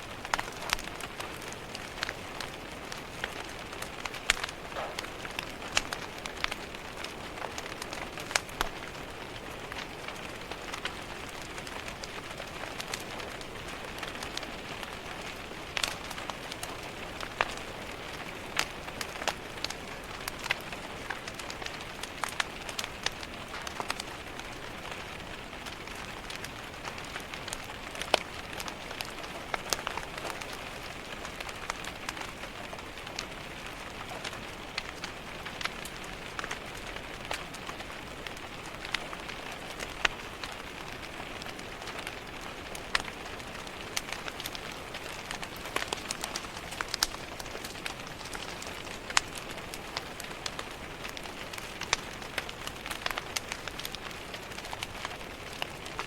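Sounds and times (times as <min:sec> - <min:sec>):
rain on a window: 0:00.0 - 0:56.0
wood fire crackling and popping: 0:00.0 - 0:56.0.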